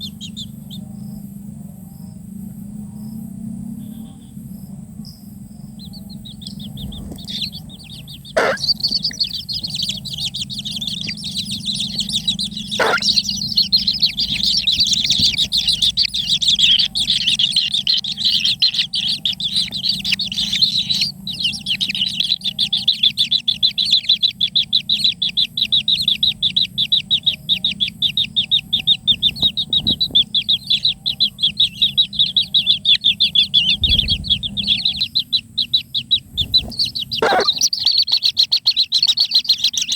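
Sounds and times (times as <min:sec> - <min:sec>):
nestlings chirping: 0:00.0 - 0:01.3, 0:05.0 - 0:39.9.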